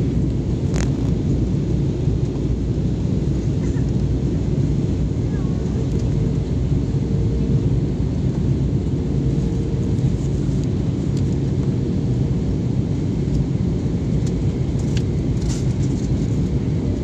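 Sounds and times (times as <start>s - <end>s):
jet engines rumbling in cabin: 0.0s - 17.0s.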